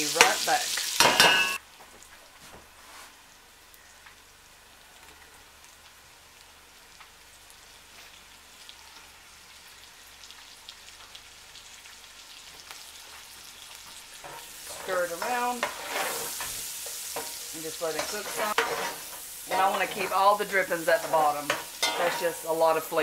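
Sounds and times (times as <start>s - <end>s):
onions sizzling in a pot: 0.0s - 1.7s, 3.1s - 23.0s.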